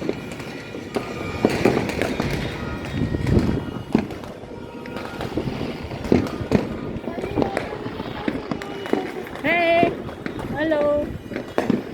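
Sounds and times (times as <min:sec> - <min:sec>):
fireworks bangs and crackling: 0:00.0 - 0:11.9.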